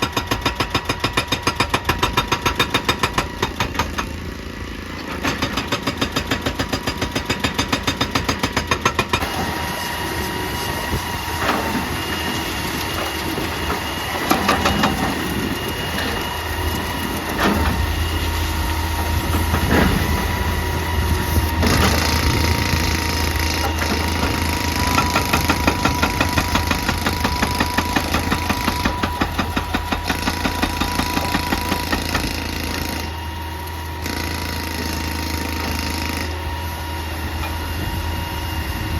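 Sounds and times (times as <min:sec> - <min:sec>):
hydraulic breaker hammering: 0:00.0 - 0:10.0, 0:10.8 - 0:33.3
excavator diesel engine running: 0:00.0 - 0:38.9.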